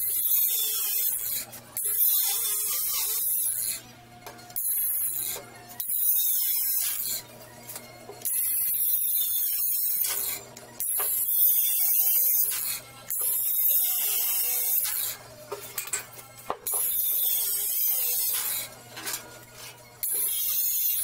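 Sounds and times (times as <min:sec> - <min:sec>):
angle grinder cutting steel: 0:00.0 - 0:21.0.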